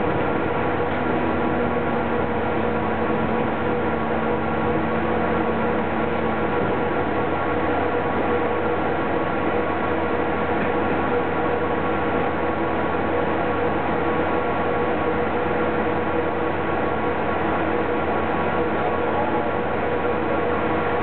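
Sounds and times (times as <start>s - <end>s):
bus interior running hum: 0.0s - 21.0s.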